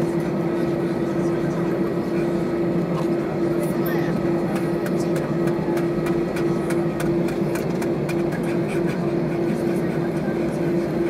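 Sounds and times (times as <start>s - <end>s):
aircraft cabin engine hum: 0.0s - 11.0s.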